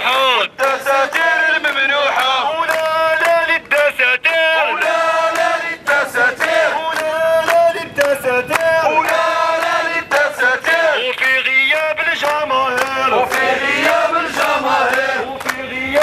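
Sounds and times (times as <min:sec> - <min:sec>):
man chanting through megaphone: 0:00.0 - 0:16.0
rhythmic hand clapping: 0:00.5 - 0:16.0.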